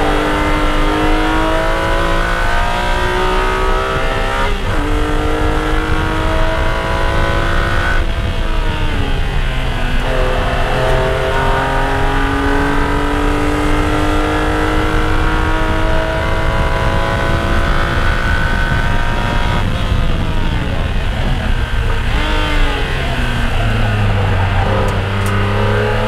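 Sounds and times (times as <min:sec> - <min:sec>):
car engine at full throttle: 0:00.0 - 0:26.0.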